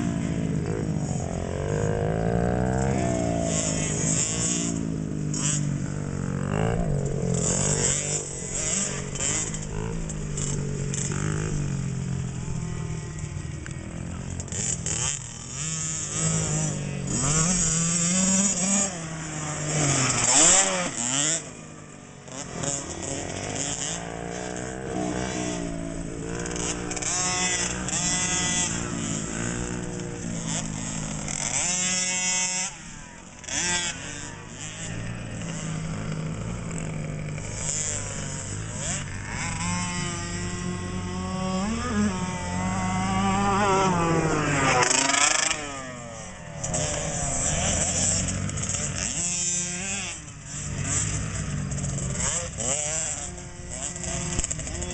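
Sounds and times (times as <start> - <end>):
two-stroke motocross engines revving: 0.0 - 54.9.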